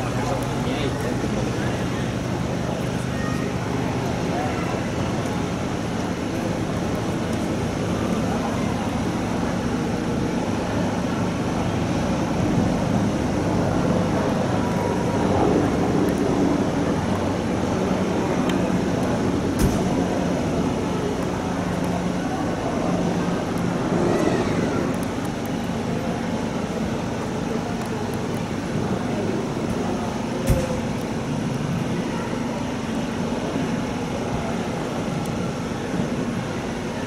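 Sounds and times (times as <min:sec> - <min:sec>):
outdoor background noise: 0:00.0 - 0:37.0
vehicle engine humming: 0:00.0 - 0:37.0.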